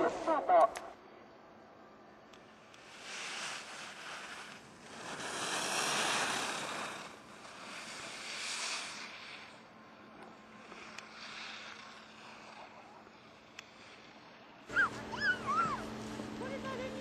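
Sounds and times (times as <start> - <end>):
skis carving over packed snow: 2.3 - 17.0.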